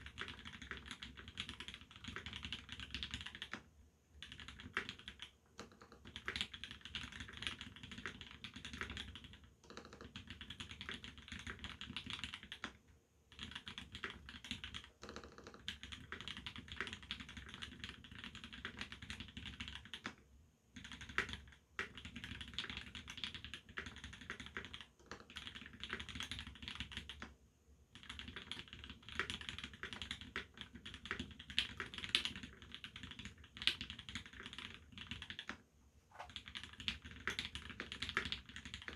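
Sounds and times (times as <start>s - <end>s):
fast mechanical keyboard typing: 0.0s - 20.2s, 20.8s - 27.3s, 27.9s - 35.6s, 36.2s - 38.9s.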